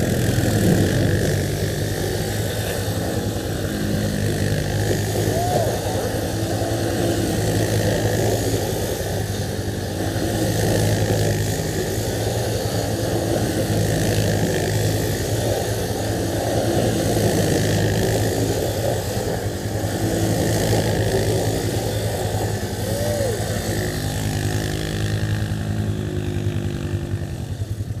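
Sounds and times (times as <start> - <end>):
atv engine idling: 0.0 - 28.0
distant quad engine revving: 0.0 - 28.0.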